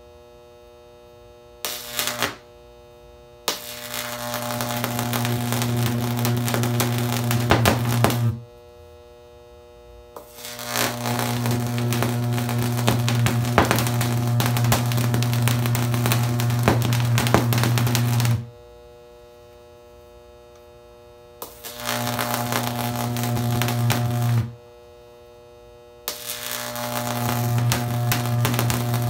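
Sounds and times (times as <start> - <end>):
faint hum: 0.0 - 29.0
electric arc buzzing and crackling: 0.6 - 29.0.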